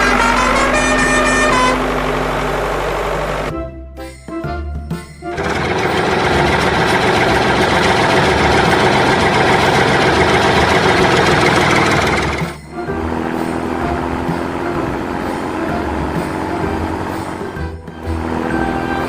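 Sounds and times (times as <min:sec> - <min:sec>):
music: 0:00.0 - 0:01.8, 0:03.4 - 0:19.0
engine sound effect: 0:00.0 - 0:03.6, 0:05.3 - 0:19.0.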